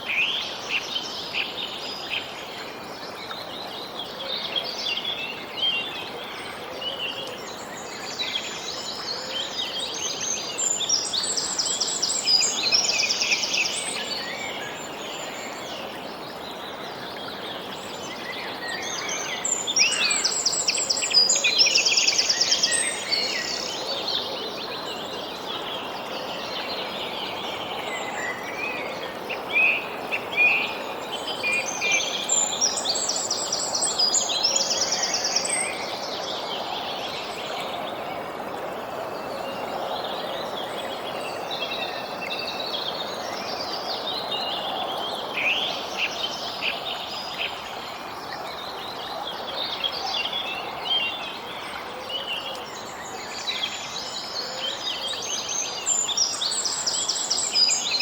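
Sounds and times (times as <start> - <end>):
small songbirds chirping and trilling: 0.0 - 58.0
soft outdoor hiss: 0.0 - 58.0.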